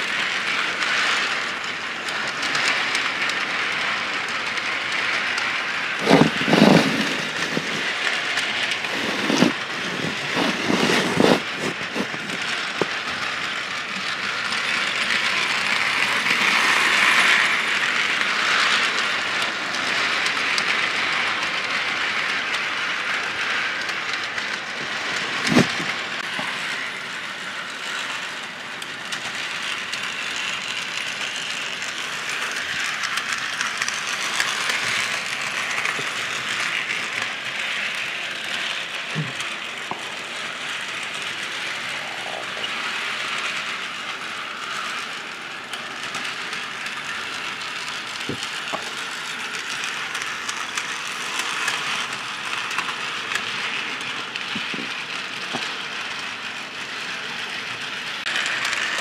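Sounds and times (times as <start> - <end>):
model train rattling on track: 0.0 - 59.0.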